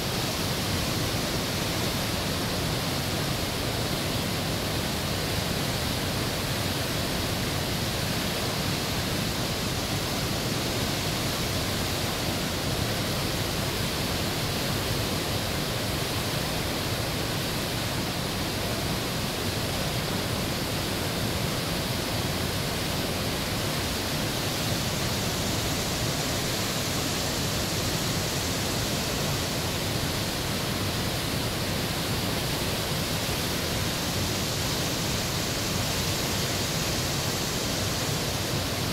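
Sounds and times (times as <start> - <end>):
whitewater rushing over rocks: 0.0 - 38.9.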